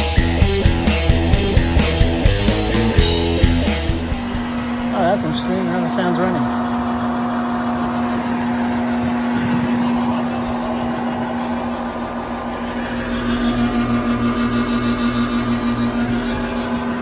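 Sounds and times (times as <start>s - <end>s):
pulsing throb: 0.0s - 17.0s
air conditioner electrical hum: 2.8s - 17.0s.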